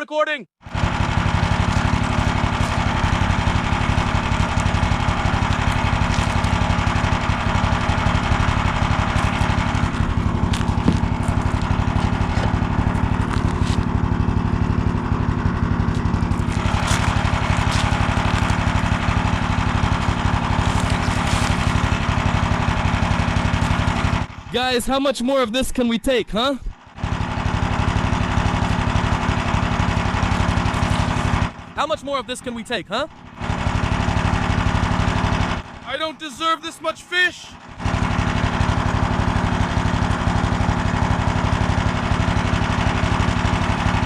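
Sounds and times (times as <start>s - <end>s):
small engine running: 0.6s - 44.0s.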